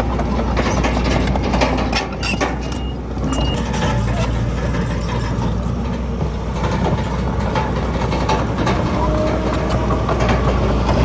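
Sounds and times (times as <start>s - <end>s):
heavy diesel machinery rumbling: 0.0s - 11.0s.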